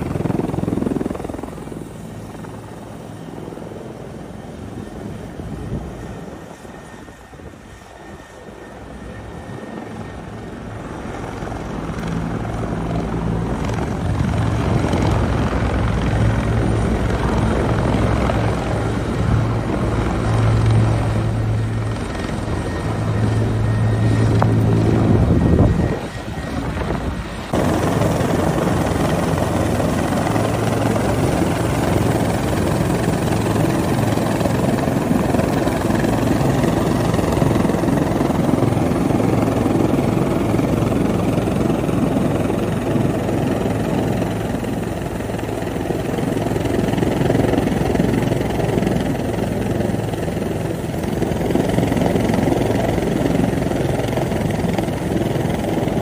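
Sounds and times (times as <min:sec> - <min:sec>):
helicopter running: 0:00.0 - 0:56.0.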